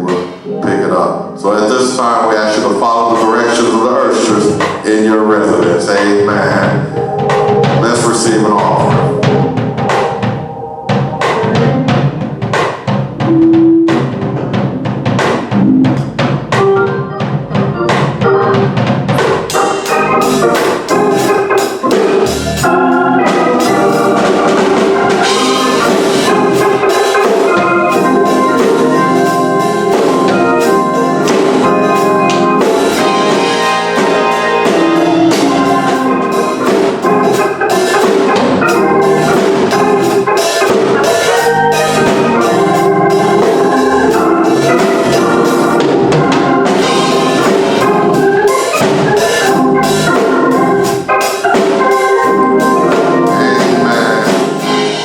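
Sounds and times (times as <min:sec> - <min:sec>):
gospel church music with drums and organ: 0:00.0 - 0:55.0.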